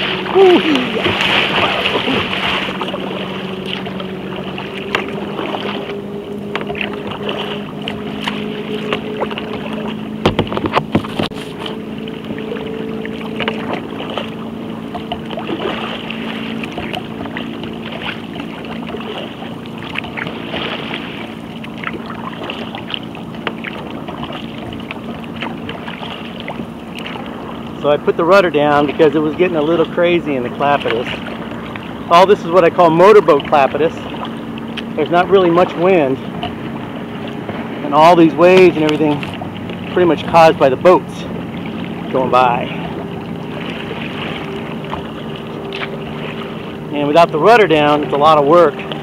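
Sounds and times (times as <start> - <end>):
sharp splashes: 0.0 - 49.0
waves slapping against kayak hull: 0.0 - 49.0.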